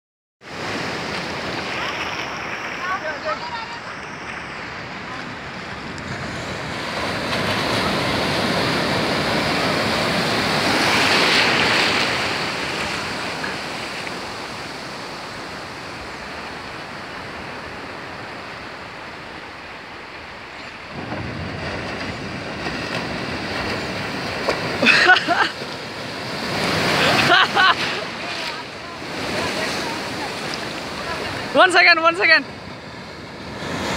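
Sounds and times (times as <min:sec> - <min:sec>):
sea surf breaking: 0:00.4 - 0:33.9.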